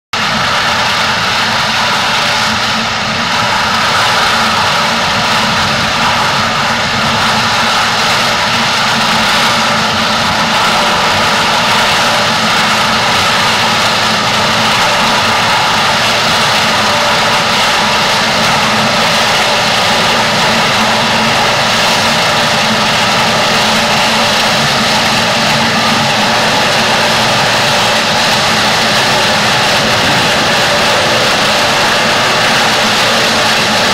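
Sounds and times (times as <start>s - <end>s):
harvester engine and machinery: 0.2s - 33.9s.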